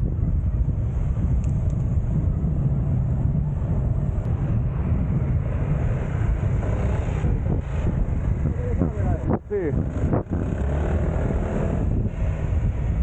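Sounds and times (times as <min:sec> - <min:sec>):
road and city traffic noise: 0:00.0 - 0:13.0
wind rumble on microphone: 0:00.0 - 0:13.0.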